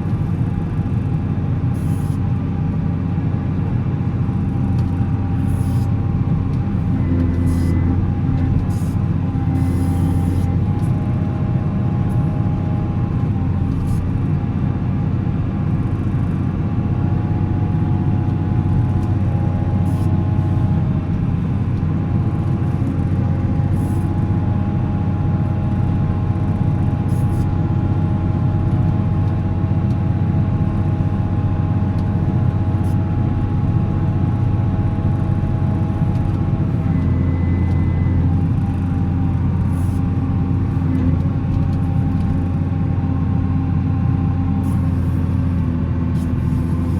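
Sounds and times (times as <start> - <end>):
diesel engine running: 0.0 - 46.9
steady whine: 3.5 - 46.9.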